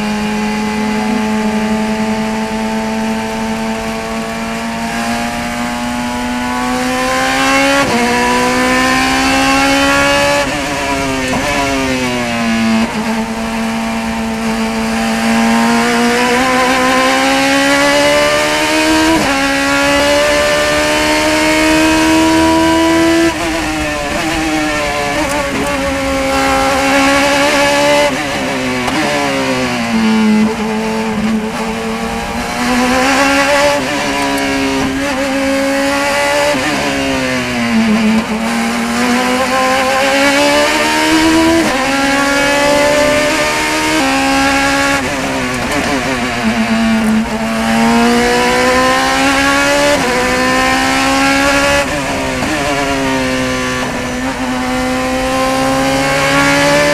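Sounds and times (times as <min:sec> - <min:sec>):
race car engine shifting gears: 0:00.0 - 0:56.9.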